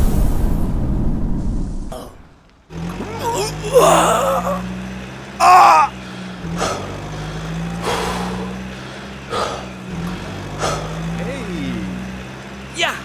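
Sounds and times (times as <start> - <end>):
truck engine drone: 1.6 - 13.0.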